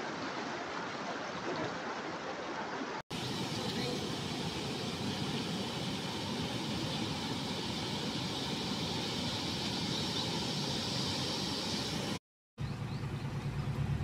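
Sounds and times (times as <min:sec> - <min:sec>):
rushing floodwater roar: 0:00.0 - 0:12.2.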